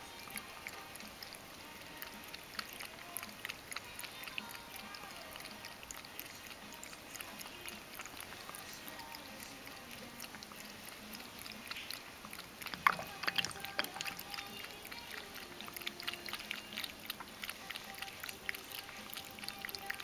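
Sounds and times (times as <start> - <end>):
cat lapping water: 0.0 - 20.0.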